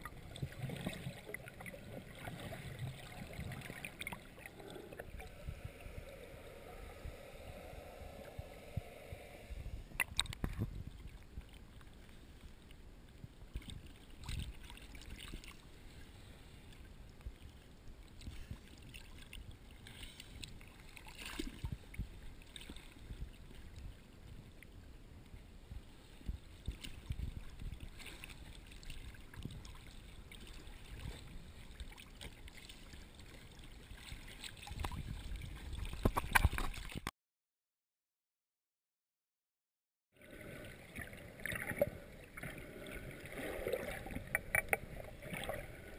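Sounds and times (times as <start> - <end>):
muffled water sloshing: 0.0 - 37.1, 40.2 - 45.9.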